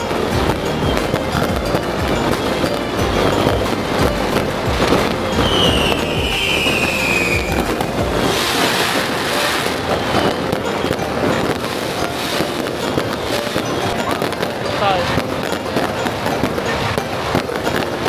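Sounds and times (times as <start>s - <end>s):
fireworks crackling and banging: 0.0s - 18.0s
whistling firework: 0.0s - 18.0s.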